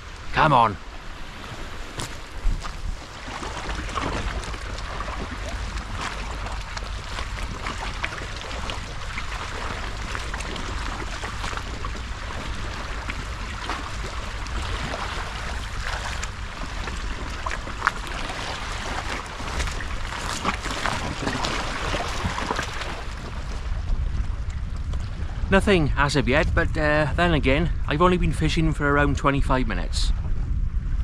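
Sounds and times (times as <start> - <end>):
water lapping against rocks: 0.0 - 25.5
wind rumbling on microphone: 0.0 - 31.0.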